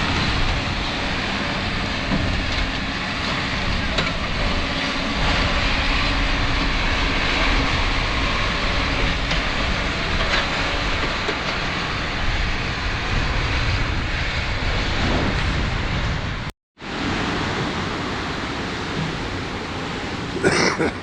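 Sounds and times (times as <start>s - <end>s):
wind buffeting microphone: 0.0s - 20.5s.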